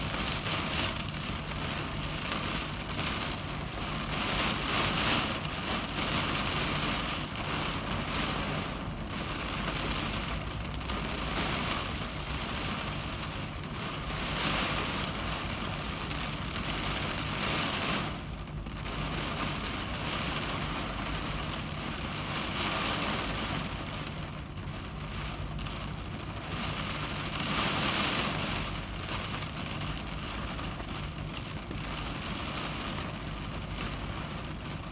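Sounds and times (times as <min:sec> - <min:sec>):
heavy rain on car windshield: 0:00.0 - 0:34.9.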